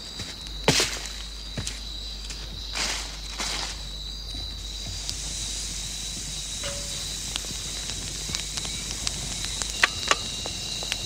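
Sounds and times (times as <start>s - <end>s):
campfire crackling and popping: 0.4s - 11.0s.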